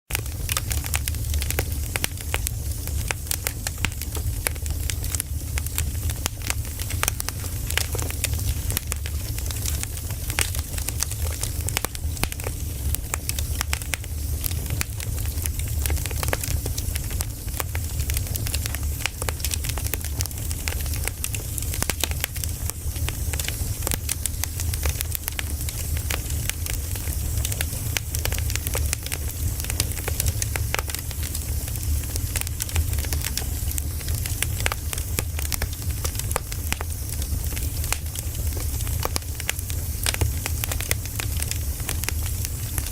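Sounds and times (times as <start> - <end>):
campfire crackling and popping: 0.1 - 42.9.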